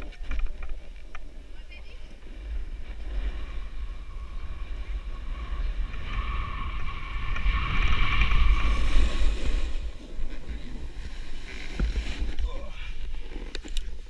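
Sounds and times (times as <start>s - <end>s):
wind buffeting microphone: 0.0s - 14.0s
snowboard scraping over snow: 0.8s - 14.0s.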